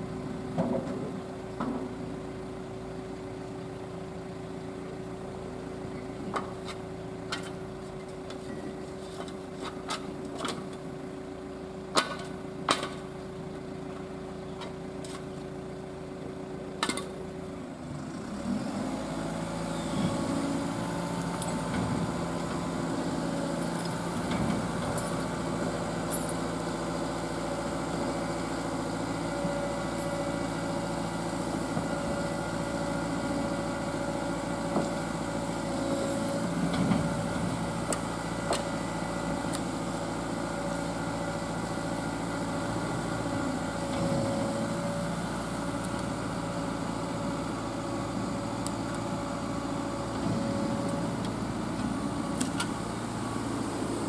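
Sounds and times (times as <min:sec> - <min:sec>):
diesel engine idling and revving: 0:00.0 - 0:54.0.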